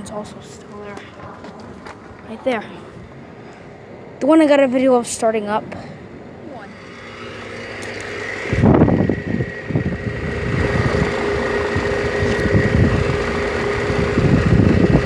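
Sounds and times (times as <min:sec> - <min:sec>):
wind buffeting microphone: 0:00.0 - 0:06.6, 0:07.8 - 0:15.0
air conditioner unit humming: 0:00.0 - 0:15.0.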